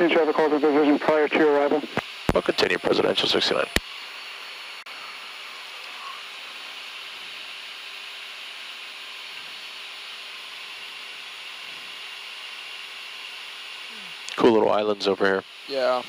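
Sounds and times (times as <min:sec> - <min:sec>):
cockpit hiss: 0:00.0 - 0:16.0.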